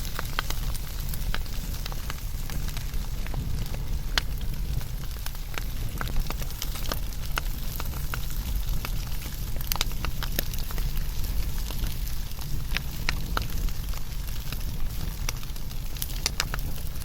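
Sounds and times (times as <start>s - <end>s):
fire crackles and pops: 0.0s - 17.0s
wood fire rumble: 0.0s - 17.0s.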